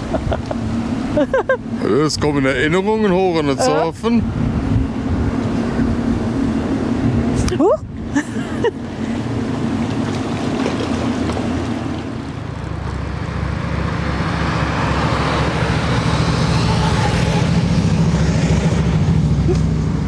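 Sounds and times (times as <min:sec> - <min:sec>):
car passing: 0:00.0 - 0:20.0
road traffic and engine noise: 0:00.0 - 0:20.0.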